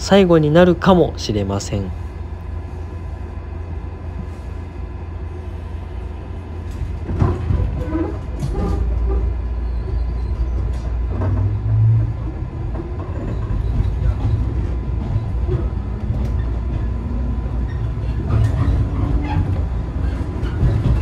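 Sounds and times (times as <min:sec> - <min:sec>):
train interior rumble: 0:00.0 - 0:21.0.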